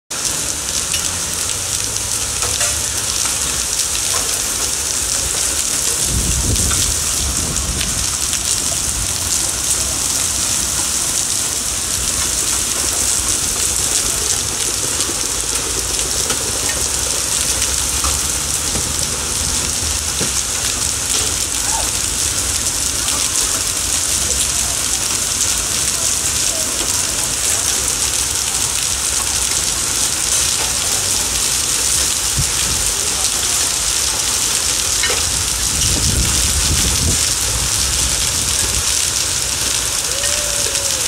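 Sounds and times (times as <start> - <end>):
hail and rain on stone paving: 0.1 - 41.0
hailstones ticking: 0.1 - 41.0.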